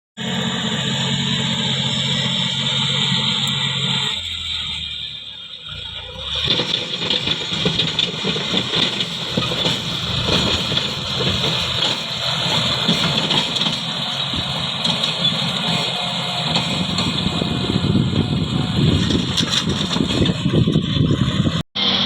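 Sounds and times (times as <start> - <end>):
excavator engine with clattering: 0.2 - 22.0.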